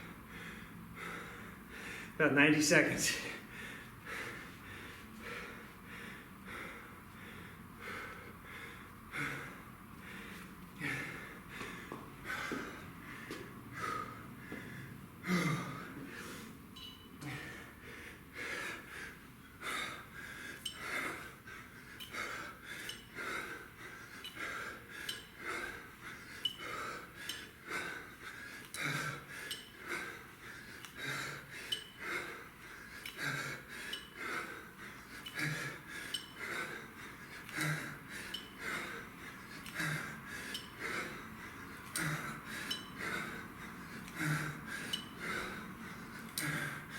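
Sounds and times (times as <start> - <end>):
man breathing hard: 0.0 - 2.2, 3.0 - 46.9.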